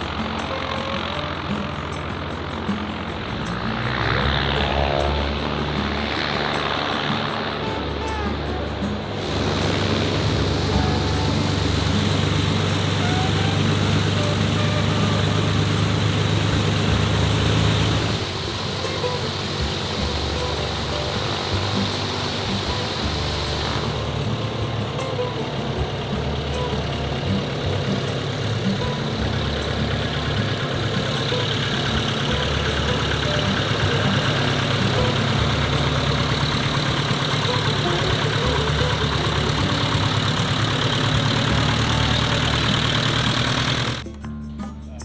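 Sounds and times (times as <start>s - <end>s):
light aircraft engine running: 0.0s - 45.0s.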